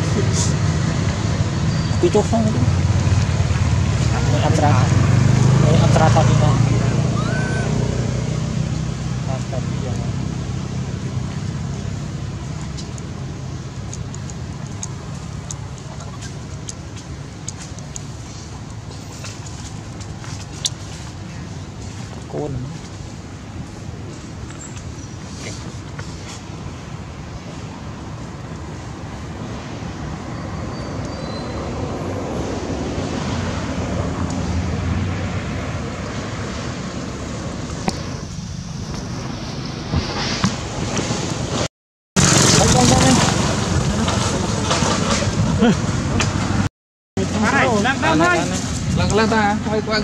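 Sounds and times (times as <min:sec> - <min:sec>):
low traffic rumble: 0:00.0 - 0:50.0.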